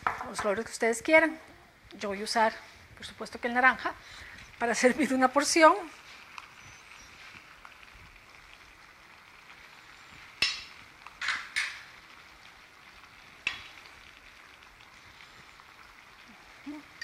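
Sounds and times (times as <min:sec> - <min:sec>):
pan sizzling: 0:00.0 - 0:17.0.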